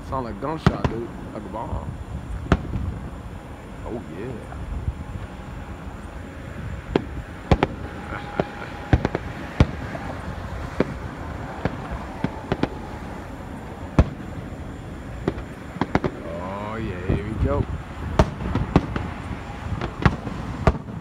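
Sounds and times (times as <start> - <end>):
firework shells bursting: 0.0 - 21.0.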